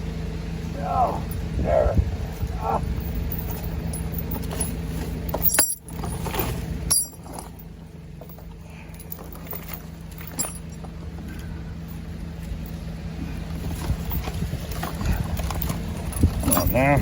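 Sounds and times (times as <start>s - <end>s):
machine engine idling: 0.0s - 17.0s
chain clinking and rattling: 0.8s - 17.0s.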